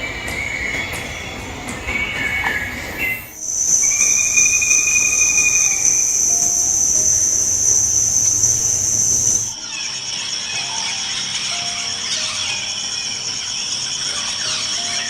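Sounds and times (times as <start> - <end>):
insects high-pitched trill: 0.0 - 15.0
fainter lower-pitched insect call: 0.1 - 15.0.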